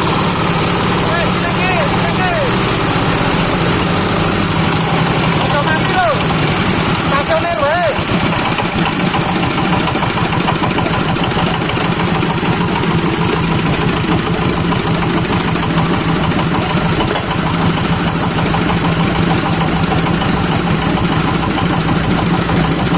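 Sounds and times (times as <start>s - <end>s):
grinding machine droning: 0.0s - 22.9s.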